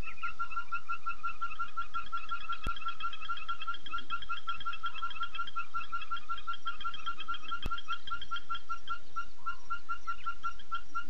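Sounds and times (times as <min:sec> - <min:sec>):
frogs pulsing calls: 0:00.0 - 0:11.0.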